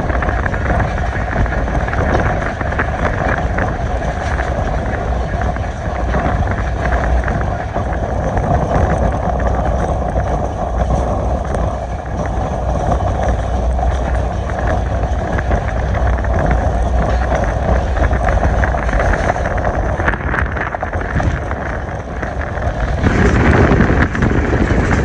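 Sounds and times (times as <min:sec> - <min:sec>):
passenger train rumbling: 0:00.0 - 0:25.0
wind buffeting microphone: 0:00.0 - 0:25.0.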